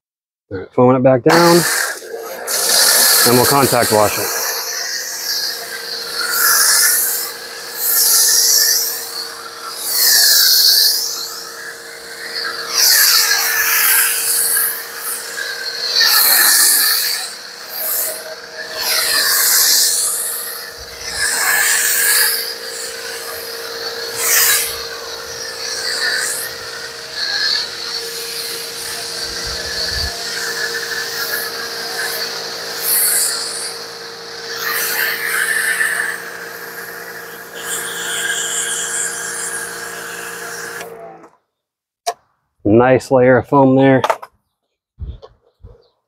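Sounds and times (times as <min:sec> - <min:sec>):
steady hum: 0:01.4 - 0:38.8
foam spray hissing: 0:01.4 - 0:40.8.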